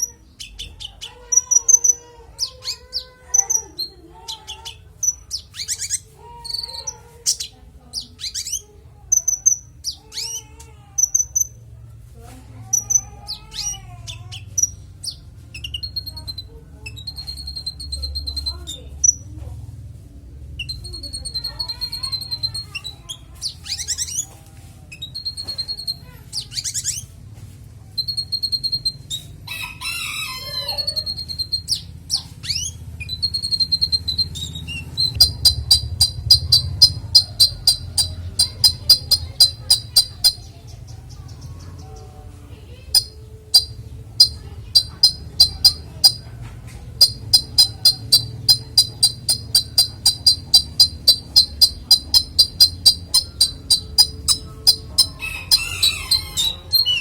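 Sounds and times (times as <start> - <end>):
songbird singing: 0.0 - 11.7, 12.6 - 19.4, 20.5 - 27.1, 27.9 - 57.0.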